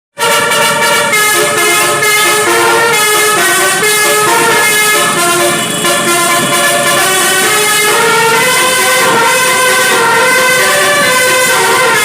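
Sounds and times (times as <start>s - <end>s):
multi-tone air horns melody: 0.2s - 12.0s.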